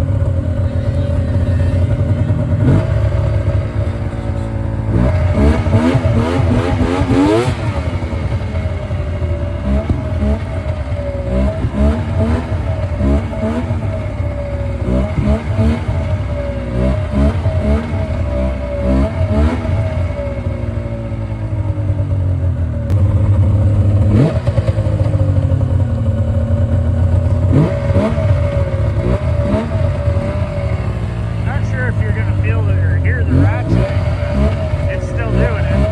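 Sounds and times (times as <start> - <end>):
snowmobile engine revving: 0.0 - 21.8, 22.9 - 35.9.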